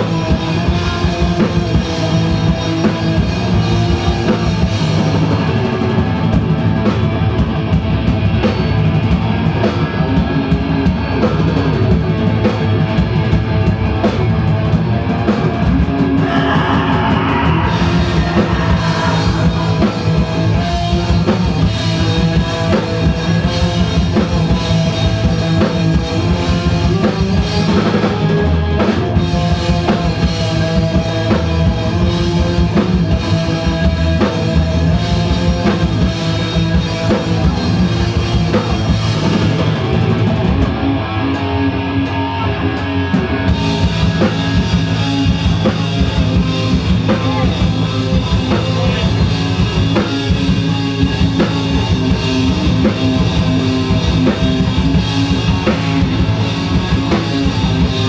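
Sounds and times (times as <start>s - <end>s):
electric guitars: 0.0s - 58.0s
fast drum kit: 0.0s - 58.0s
live metal band playing: 0.0s - 58.0s.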